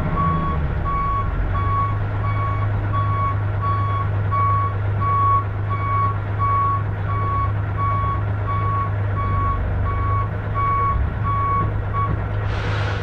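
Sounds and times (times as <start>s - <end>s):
diesel engine running: 0.0s - 13.0s
reversing alarm beeping: 0.1s - 12.2s.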